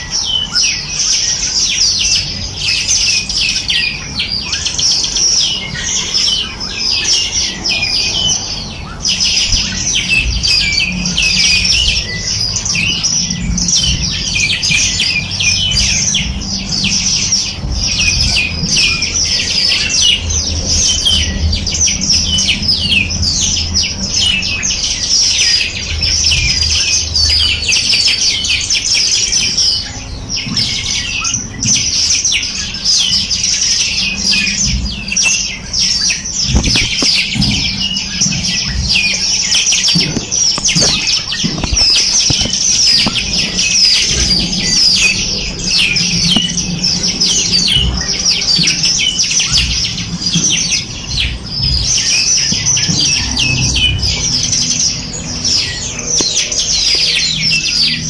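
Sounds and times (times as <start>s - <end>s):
songbirds chirping and trilling: 0.0s - 58.0s
low steady rumble: 0.8s - 56.7s.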